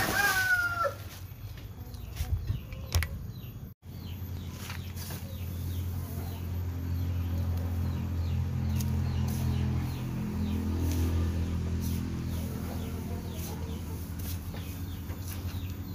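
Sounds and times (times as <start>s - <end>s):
small birds chirping: 1.4s - 15.9s.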